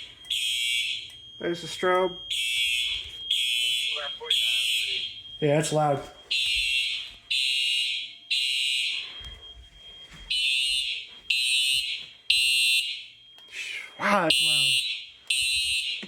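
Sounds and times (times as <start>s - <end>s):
fire alarm horn blasts: 0.0s - 16.0s.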